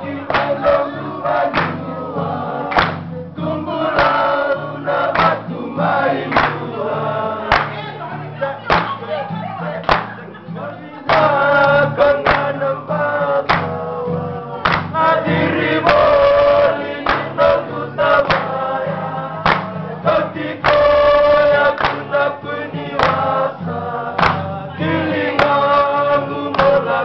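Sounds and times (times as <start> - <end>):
men singing in harmony: 0.0 - 9.5, 10.2 - 27.0
strummed acoustic guitar: 0.0 - 27.0.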